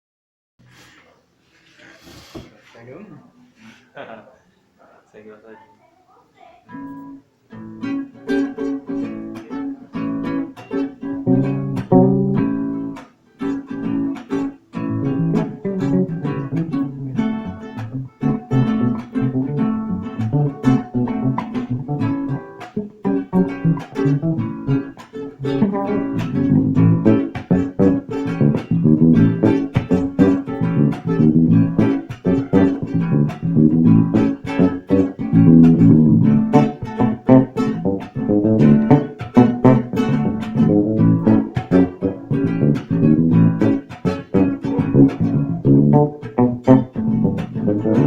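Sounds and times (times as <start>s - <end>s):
guitar plucked melody: 6.7s - 48.0s.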